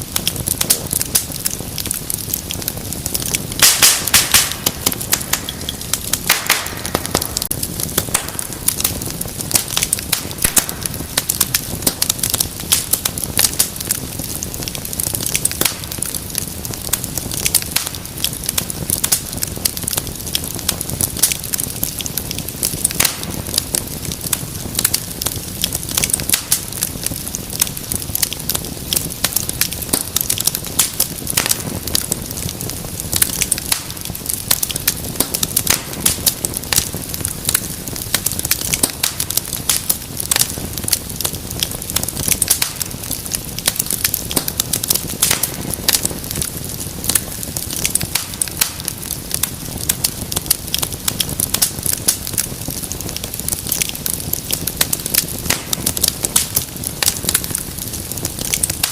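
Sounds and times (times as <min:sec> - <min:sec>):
low rush of flame: 0:00.0 - 0:58.9
wood fire crackling: 0:00.0 - 0:58.9.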